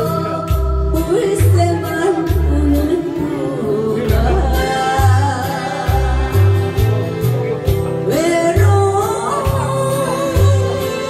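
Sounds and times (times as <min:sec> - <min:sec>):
woman singing into microphone: 0:00.0 - 0:07.3, 0:07.9 - 0:11.0
acoustic guitar: 0:00.0 - 0:11.0
steady bass: 0:00.0 - 0:11.0.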